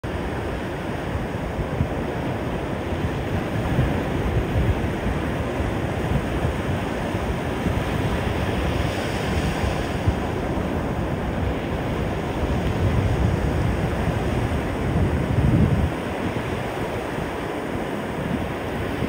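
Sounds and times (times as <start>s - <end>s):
ocean surf washing: 0.0s - 19.0s
wind buffeting microphone: 0.1s - 19.0s.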